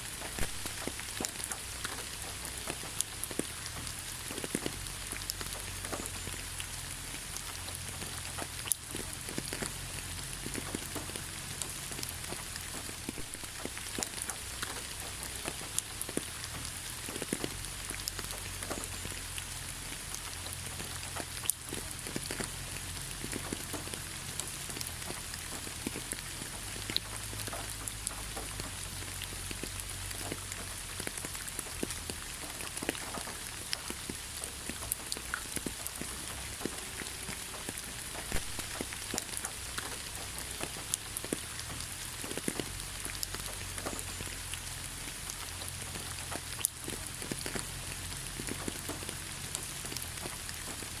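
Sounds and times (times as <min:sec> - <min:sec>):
louder water drips: 0:00.0 - 0:51.0
rain on forest foliage: 0:00.0 - 0:51.0.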